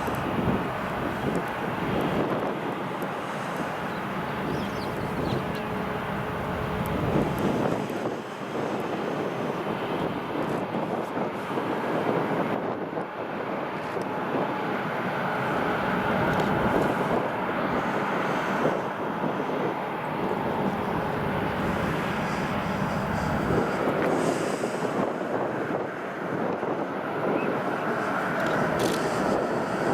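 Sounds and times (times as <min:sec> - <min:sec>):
jet engine roar in cabin: 0:00.0 - 0:29.9.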